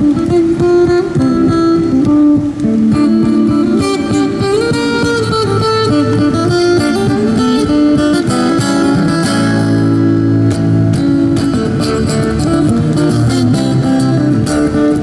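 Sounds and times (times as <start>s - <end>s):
fingerstyle guitar: 0.0s - 15.0s.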